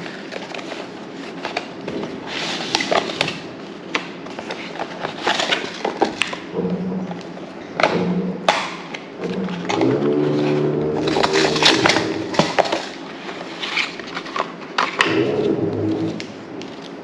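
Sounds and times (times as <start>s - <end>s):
box and contents being handled: 0.0s - 6.4s, 9.2s - 17.0s.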